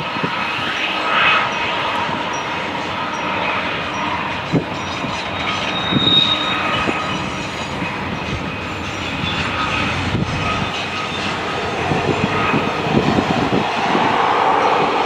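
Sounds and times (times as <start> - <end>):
train wheels rumbling on rail: 0.0 - 15.0
high wheel squeals: 0.6 - 15.0.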